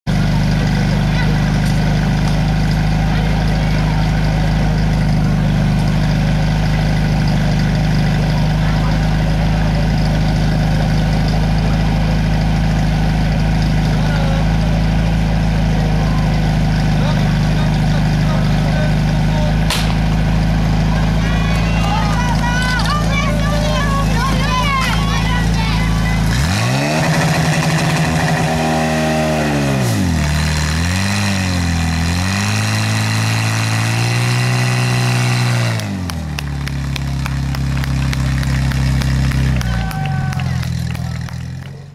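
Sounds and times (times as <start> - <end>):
fire pump engine running: 0.0 - 41.9.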